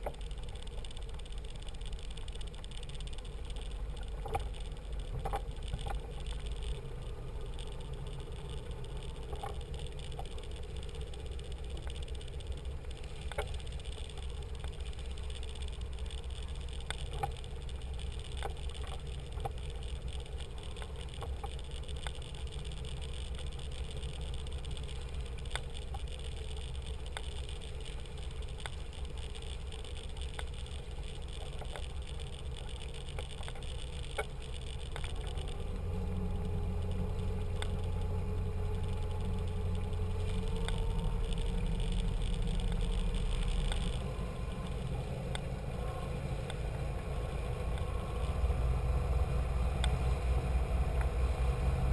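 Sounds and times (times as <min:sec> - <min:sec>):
boat engine droning: 0:00.0 - 0:51.9
light ticks and rattles: 0:00.0 - 0:51.9.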